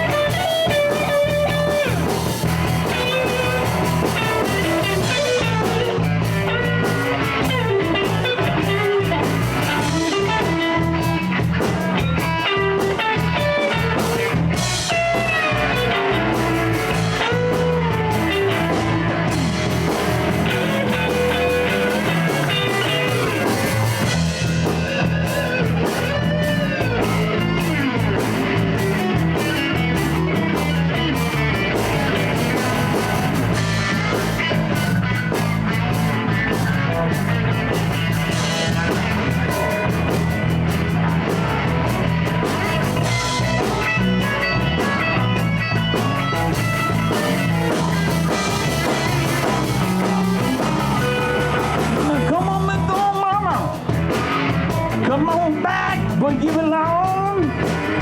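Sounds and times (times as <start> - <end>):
blues band playing: 0.0 - 58.0
guitar lead with bent notes: 0.0 - 58.0.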